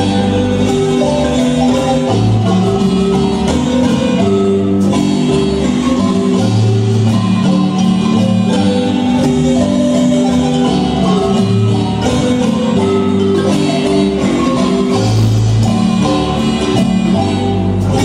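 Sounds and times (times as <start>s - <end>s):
marimba band playing: 0.0s - 18.0s.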